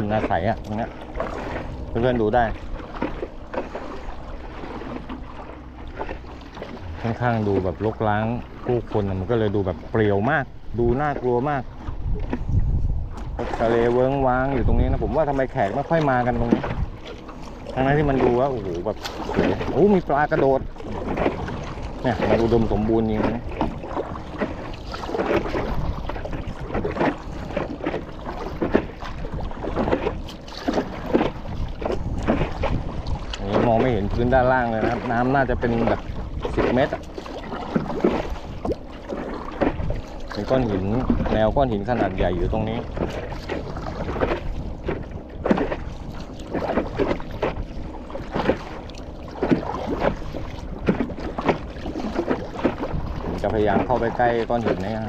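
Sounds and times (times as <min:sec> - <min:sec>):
paddle strokes in water: 0:00.0 - 0:55.0
water slapping against board: 0:00.0 - 0:55.0
wind noise on microphone: 0:06.7 - 0:17.1, 0:17.7 - 0:38.8, 0:39.6 - 0:48.7, 0:49.4 - 0:55.0.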